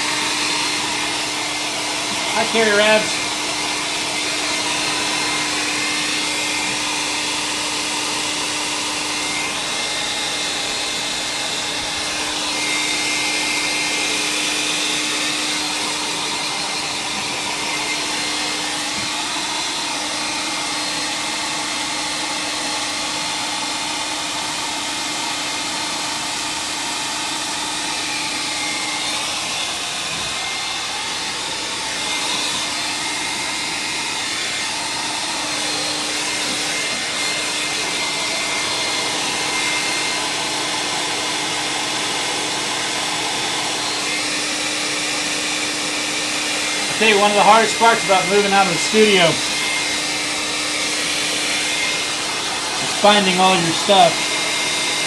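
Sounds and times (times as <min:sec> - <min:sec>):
electric dryer blowing: 0:00.0 - 0:55.0.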